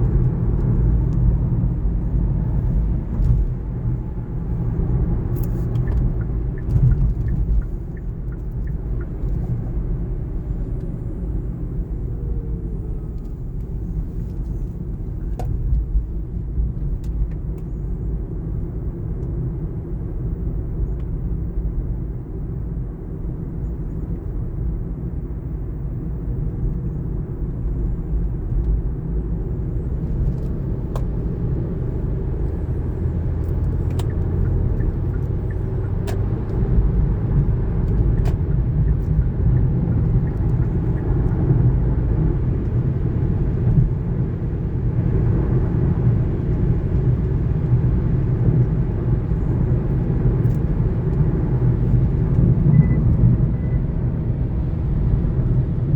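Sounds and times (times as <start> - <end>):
car road noise rumble: 0.0 - 55.9.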